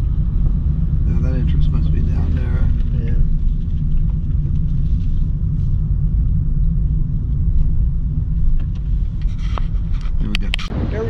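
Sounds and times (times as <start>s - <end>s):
vehicle cabin engine rumble: 0.0s - 11.0s.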